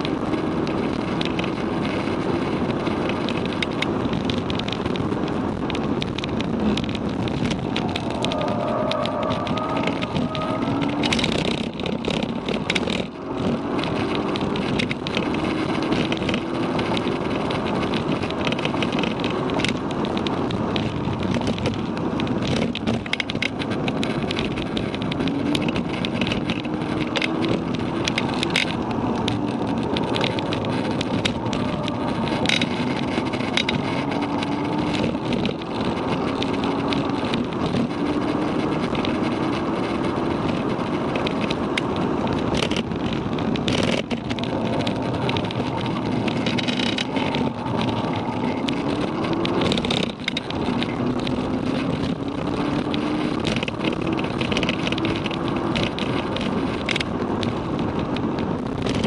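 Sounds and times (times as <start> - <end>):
car engine accelerating: 0.0 - 59.0
road and tyre noise: 0.0 - 59.0.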